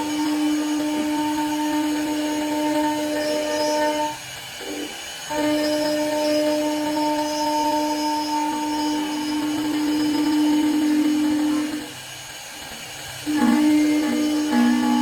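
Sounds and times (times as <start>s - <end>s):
lathe spindle motor whining: 0.0s - 15.0s.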